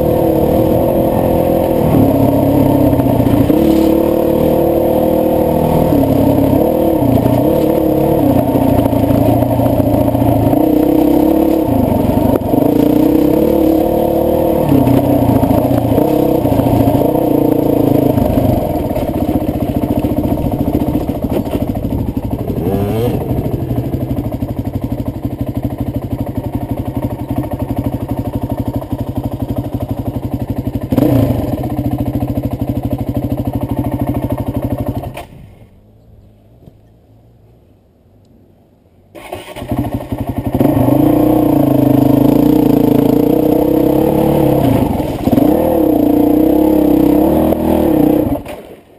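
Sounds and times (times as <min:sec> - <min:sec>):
motorcycle engine revving: 0:00.0 - 0:35.5, 0:39.1 - 0:48.9.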